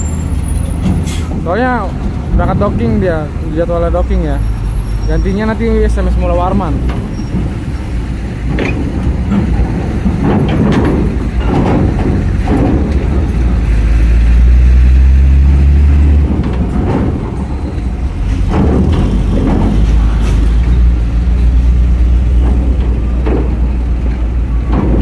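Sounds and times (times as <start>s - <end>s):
diesel truck engines: 0.0s - 25.0s
wheels clanking on ramp plates: 0.0s - 25.0s.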